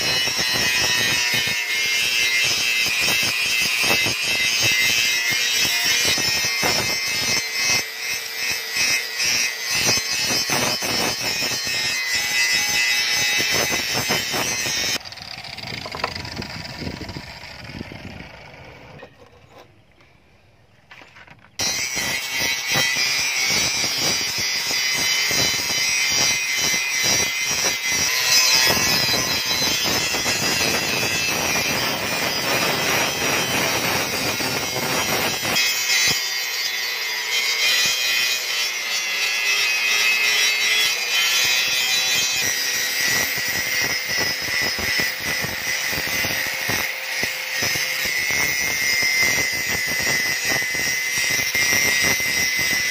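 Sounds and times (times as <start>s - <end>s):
angle grinder grinding steel: 0.0s - 19.8s, 21.0s - 52.9s.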